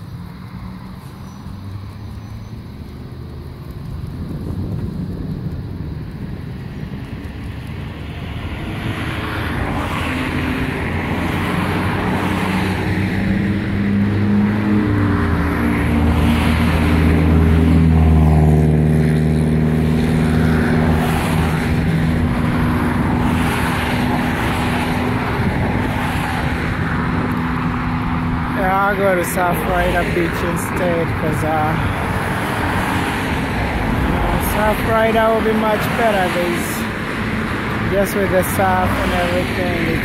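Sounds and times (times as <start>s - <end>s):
engine passing by: 0.0s - 40.0s.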